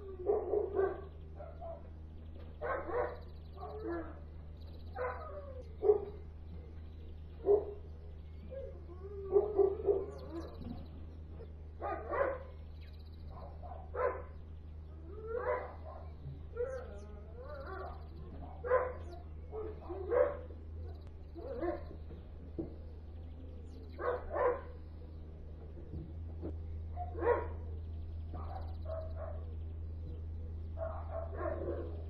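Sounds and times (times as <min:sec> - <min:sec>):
dogs barking: 0:00.0 - 0:32.0
steady low hum: 0:00.0 - 0:32.0.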